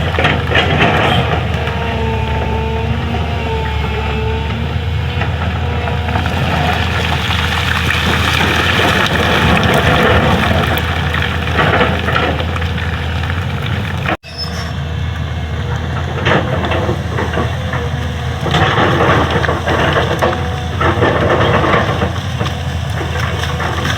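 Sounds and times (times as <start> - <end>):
bucket scraping road surface: 0.0 - 14.8, 15.9 - 23.9
excavator diesel engine running: 0.0 - 23.9.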